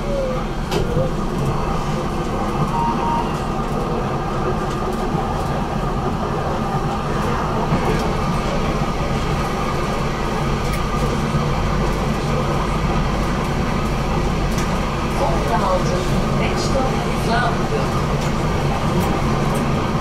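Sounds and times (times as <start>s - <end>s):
tram wheels on rails: 0.0s - 20.0s.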